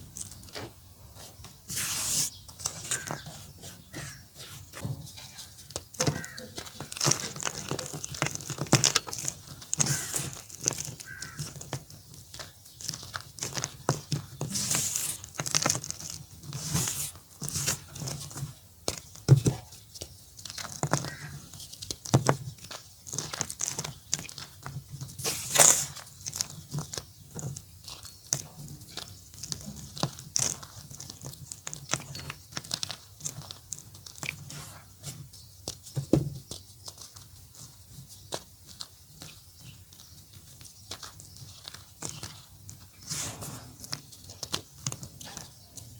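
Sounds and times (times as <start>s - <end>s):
chalk crumbling crackles: 0.0s - 45.9s.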